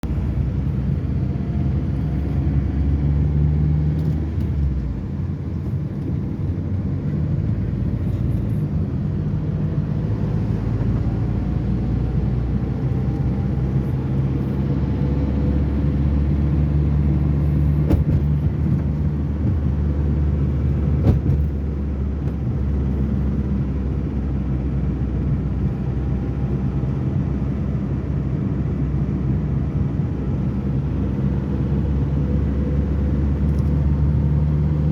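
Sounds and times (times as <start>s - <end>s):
low rumble of motor vehicle: 0.0s - 34.9s.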